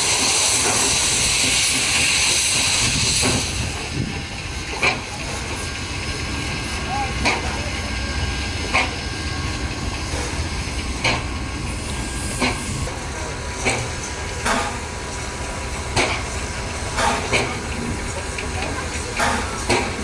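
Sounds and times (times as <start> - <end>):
steam locomotive hissing and rumbling: 0.0 - 20.0
steam locomotive sharp beats: 0.0 - 20.0.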